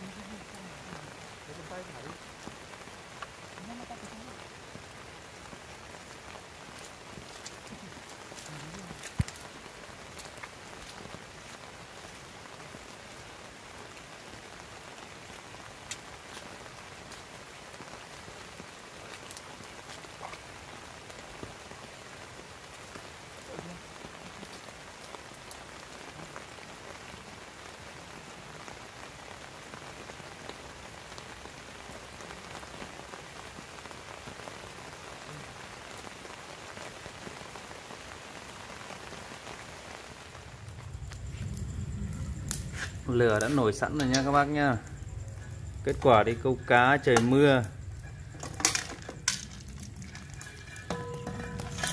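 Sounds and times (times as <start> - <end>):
heavy rain on river: 0.0 - 51.9
raindrop ticks: 0.0 - 51.9.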